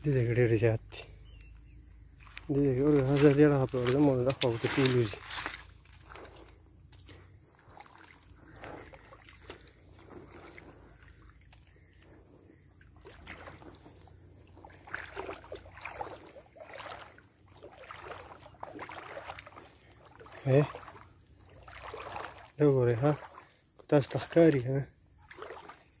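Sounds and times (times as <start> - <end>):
footsteps on wet stones and water: 0.0 - 26.0
water sloshing: 0.0 - 26.0.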